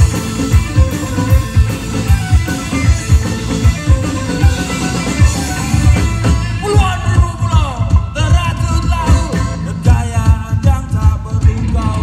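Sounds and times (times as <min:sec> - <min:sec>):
electric guitars: 0:00.0 - 0:12.0
steady drum beat: 0:00.0 - 0:12.0.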